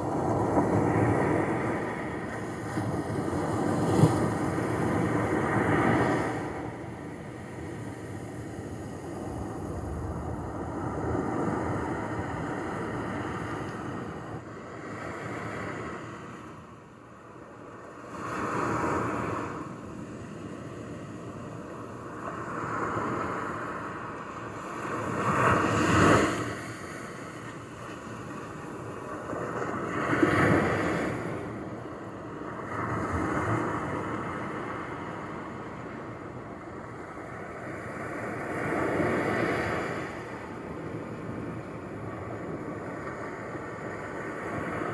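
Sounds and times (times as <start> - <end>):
small waves breaking on shore: 0.0 - 44.9.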